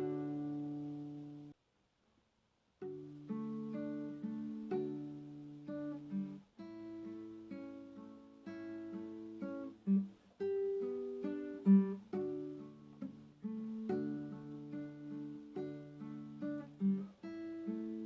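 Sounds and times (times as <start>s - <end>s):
acoustic guitar playing: 0.0s - 1.6s, 2.8s - 18.0s.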